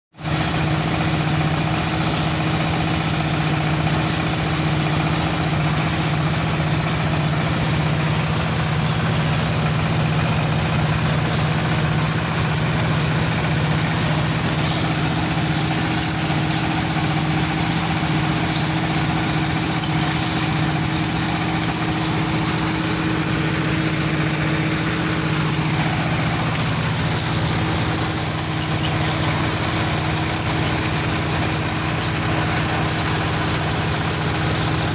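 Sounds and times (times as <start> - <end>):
dowel machine motor humming: 0.2 - 34.9.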